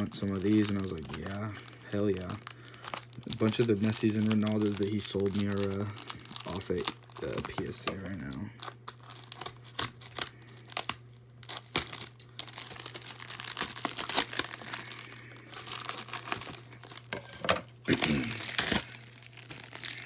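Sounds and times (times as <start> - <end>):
packaging tearing and crinkling: 0.0 - 20.0
steady low hum: 0.0 - 20.0.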